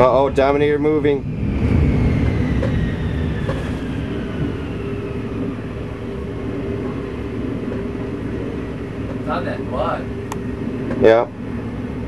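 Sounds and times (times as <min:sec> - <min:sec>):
faint falling whine: 0:00.0 - 0:12.0
jet engine roaring: 0:00.0 - 0:12.0.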